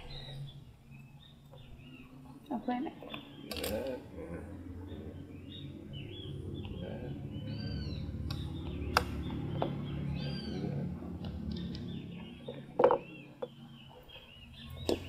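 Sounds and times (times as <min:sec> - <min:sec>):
bird chirping: 0:00.0 - 0:15.0
low hum: 0:00.0 - 0:15.0.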